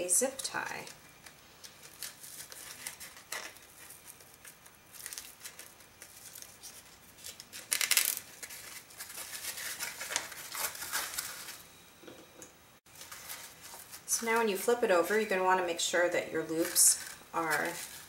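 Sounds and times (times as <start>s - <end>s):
ribbon rustling and crinkling: 0.7s - 11.6s, 12.9s - 15.2s, 16.4s - 18.0s.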